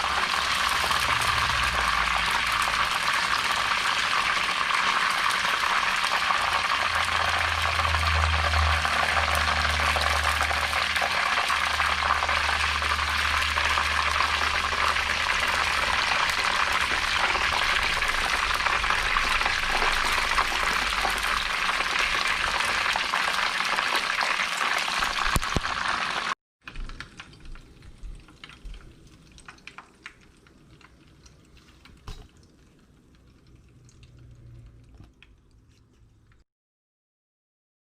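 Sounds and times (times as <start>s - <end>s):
food deep-frying in hot oil: 0.0s - 36.4s.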